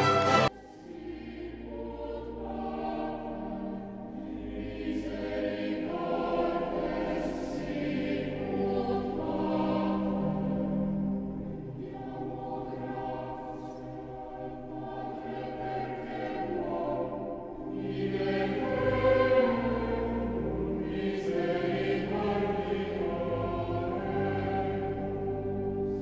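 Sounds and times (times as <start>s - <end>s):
choir singing sustained chords: 0.0s - 26.0s.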